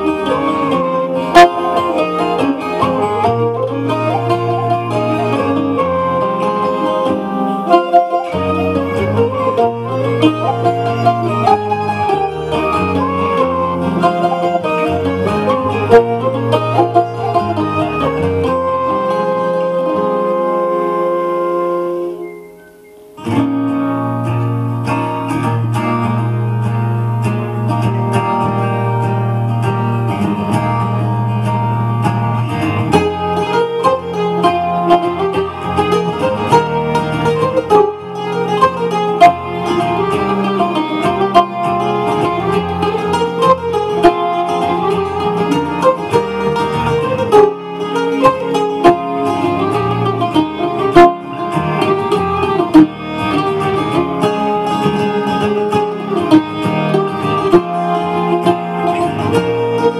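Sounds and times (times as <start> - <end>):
mandolin playing folk melody: 0.0 - 59.9.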